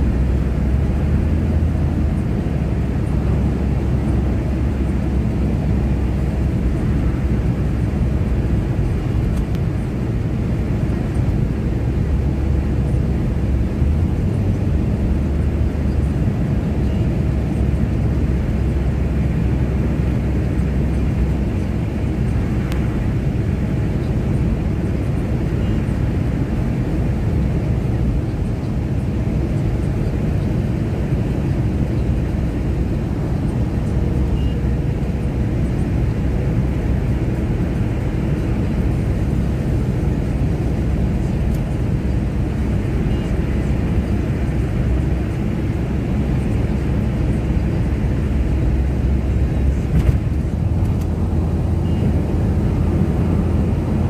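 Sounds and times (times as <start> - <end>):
car driving through tunnel: 0.0 - 54.0.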